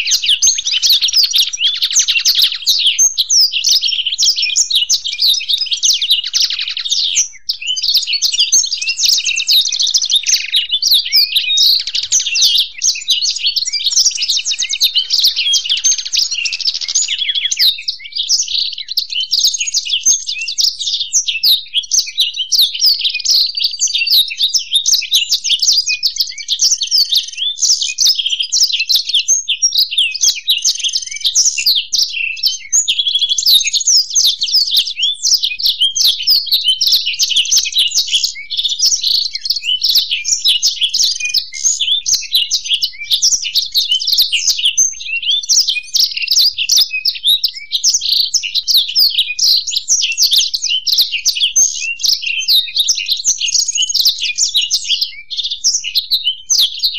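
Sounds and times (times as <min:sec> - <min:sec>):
birds twittering and trilling: 0:00.0 - 0:56.9.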